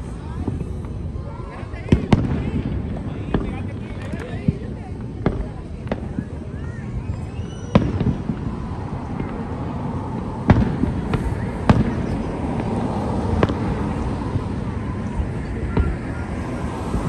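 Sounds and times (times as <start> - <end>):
background rumble: 0.0 - 17.0.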